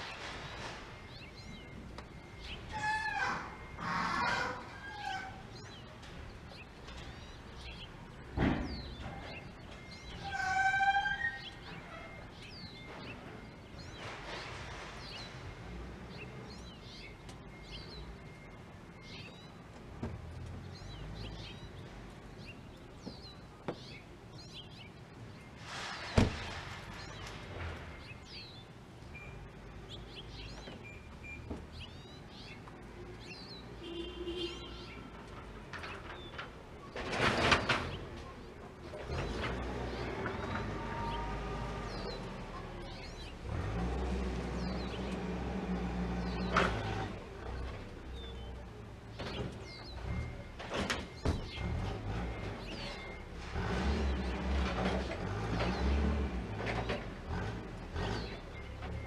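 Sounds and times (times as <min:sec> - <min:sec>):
small songbirds chirping: 0:00.0 - 0:03.8, 0:04.6 - 0:59.0
steady background noise: 0:00.0 - 0:59.0.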